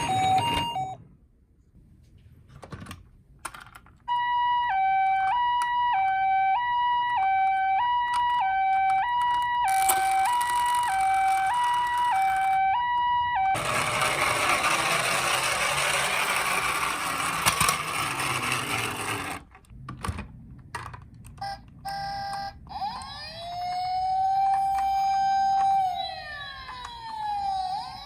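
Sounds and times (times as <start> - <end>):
toy ambulance hi-lo siren: 0.0 - 1.0, 4.1 - 19.4, 21.4 - 28.0
toy police siren wailing: 0.0 - 1.0, 4.1 - 19.4, 21.4 - 28.0.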